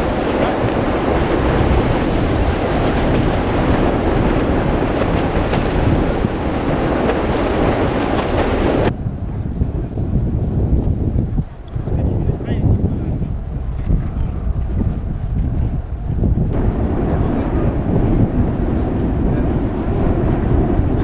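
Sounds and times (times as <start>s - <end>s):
volcanic fissure roaring: 0.0s - 21.0s
wind buffeting microphone: 0.0s - 21.0s.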